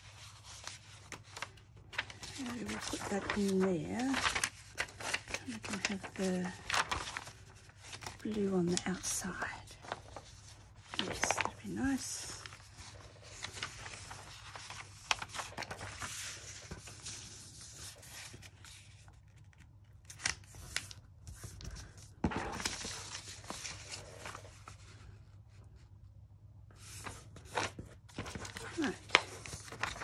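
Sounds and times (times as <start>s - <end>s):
paper rustling and sliding: 0.0s - 25.2s, 26.7s - 30.0s.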